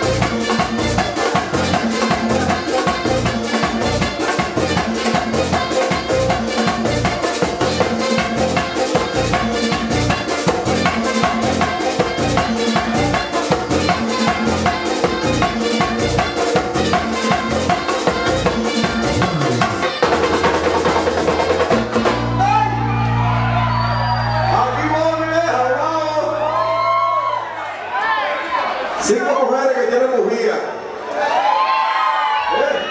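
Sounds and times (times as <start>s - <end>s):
live latin band playing: 0.0s - 27.5s.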